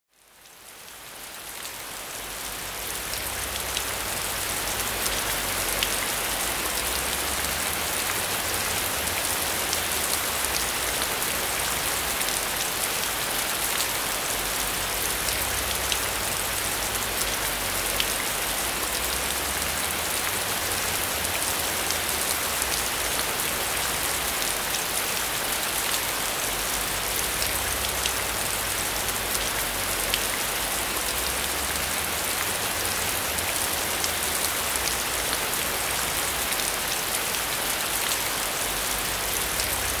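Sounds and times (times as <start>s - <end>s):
heavy rain: 0.1s - 40.0s.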